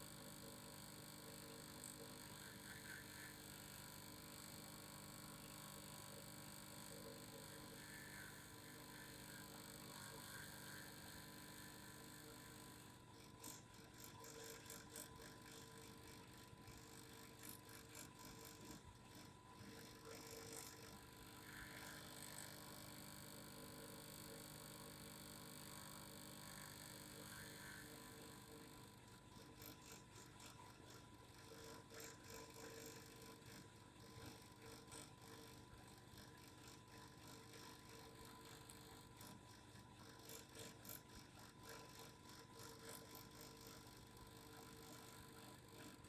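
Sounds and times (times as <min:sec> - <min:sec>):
faint vibrating hum: 0:00.0 - 0:46.0.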